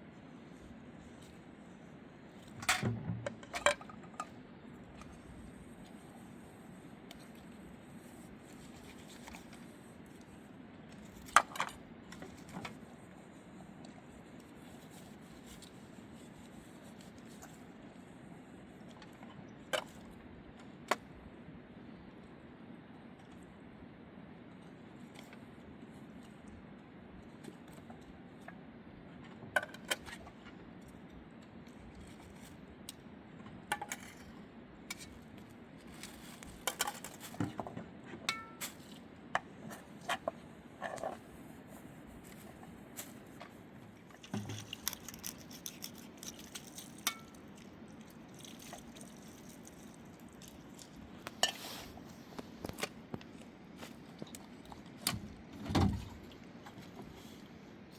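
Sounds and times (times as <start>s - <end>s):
low background hum: 0.0s - 57.9s.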